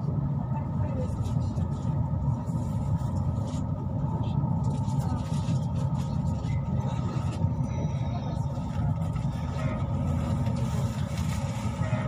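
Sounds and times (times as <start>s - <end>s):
faint constant hum: 0.0s - 12.0s
vehicle rumble: 0.0s - 12.0s.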